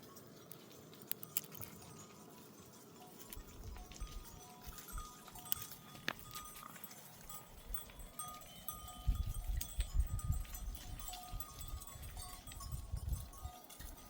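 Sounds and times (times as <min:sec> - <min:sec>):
animal bells ringing: 0:00.0 - 0:14.0.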